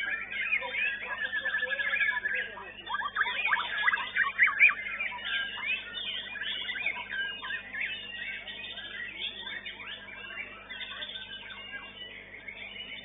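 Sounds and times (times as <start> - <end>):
bird singing whistles and chirps: 0.0 - 13.0.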